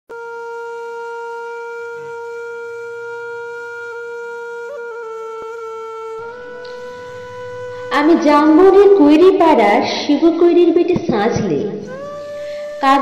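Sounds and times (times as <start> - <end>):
wind instrument long note: 0.1 - 10.5, 11.8 - 13.0.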